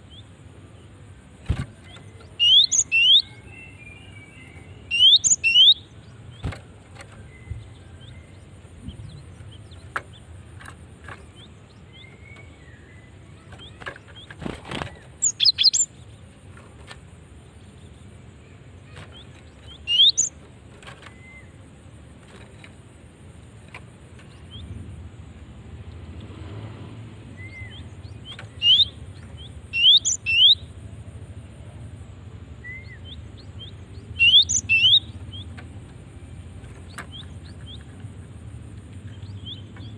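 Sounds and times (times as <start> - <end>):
bird chirping: 0.0 - 25.0, 27.3 - 39.9.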